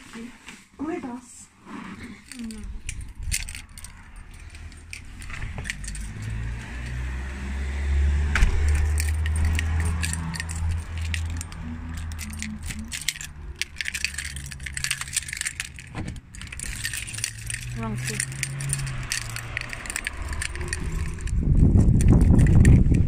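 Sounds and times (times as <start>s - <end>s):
keys jangling: 2.0s - 23.0s
passing car engine: 3.3s - 22.8s.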